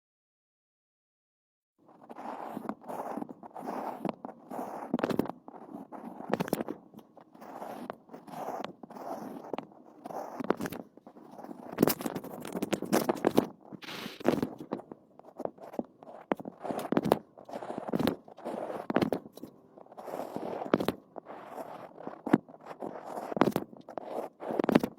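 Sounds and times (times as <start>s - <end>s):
crunching and scraping: 1.9s - 24.9s.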